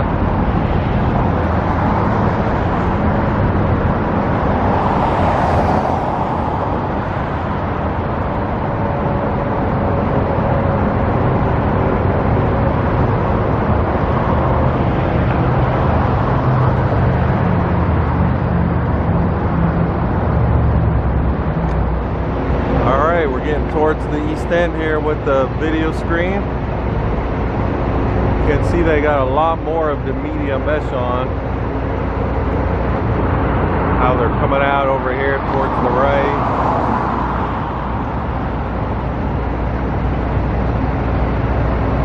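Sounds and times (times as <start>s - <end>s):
low hum: 0.0s - 42.0s
road traffic rumble: 0.0s - 42.0s.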